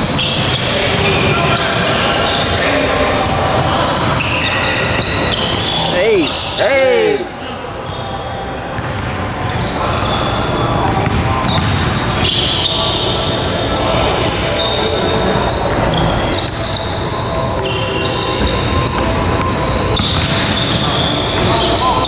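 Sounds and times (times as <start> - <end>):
sneaker squeaks: 1.5 - 6.7, 7.4 - 13.4, 14.5 - 22.0.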